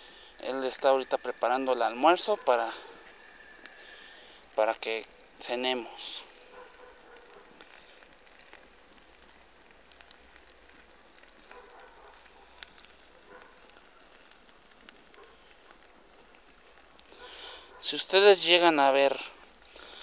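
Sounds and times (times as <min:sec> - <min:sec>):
fire crackles and pops: 0:00.0 - 0:20.0
fire hissing: 0:00.0 - 0:20.0.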